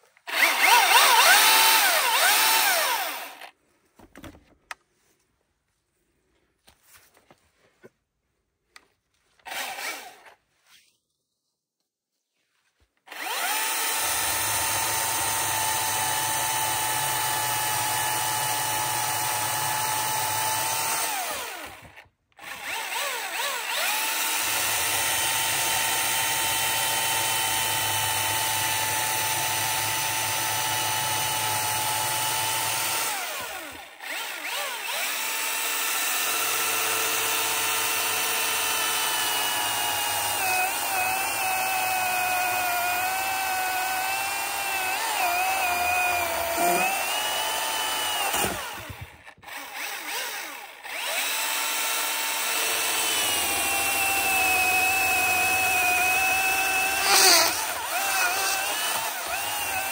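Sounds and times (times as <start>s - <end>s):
electric chainsaw cutting log: 0.2s - 3.6s, 9.4s - 10.4s, 13.0s - 59.9s.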